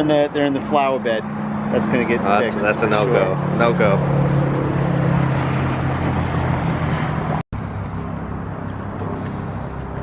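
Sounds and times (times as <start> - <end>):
low motor hum: 1.1 - 10.0.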